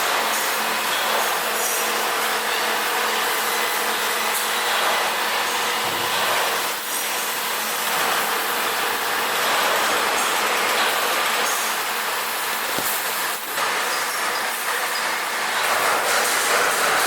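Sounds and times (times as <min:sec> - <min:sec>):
tire shredder running: 0:00.0 - 0:17.0.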